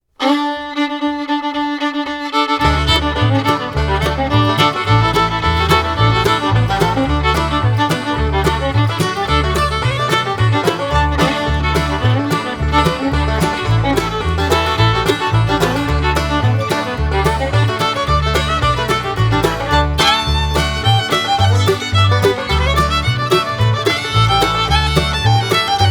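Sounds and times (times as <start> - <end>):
upbeat instrumental music: 2.4 - 25.9.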